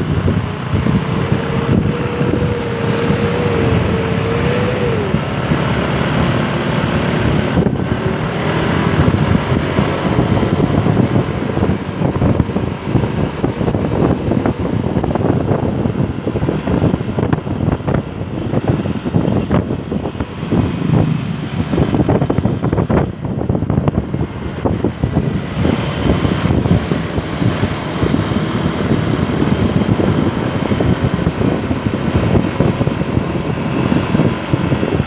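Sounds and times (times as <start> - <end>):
road noise: 0.0 - 35.0
vehicle engine: 0.0 - 35.0
wind buffeting microphone: 0.0 - 35.0.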